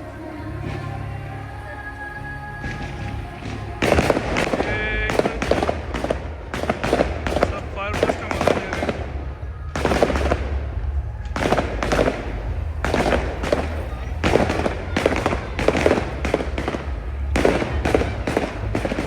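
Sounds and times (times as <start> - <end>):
steady low rumble: 0.0 - 19.0
fireworks bangs and crackles: 2.6 - 19.0.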